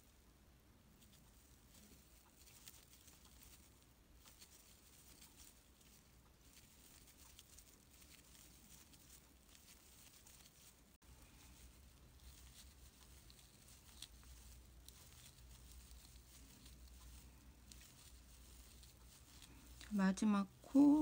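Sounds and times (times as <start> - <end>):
crochet hook rustling yarn: 0.0 - 21.0.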